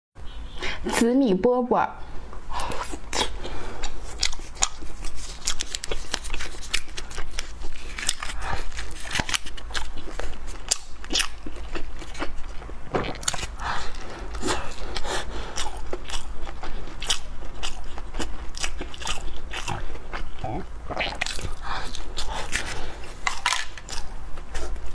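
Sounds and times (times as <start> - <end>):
biting and chewing rice cake: 2.5 - 24.9.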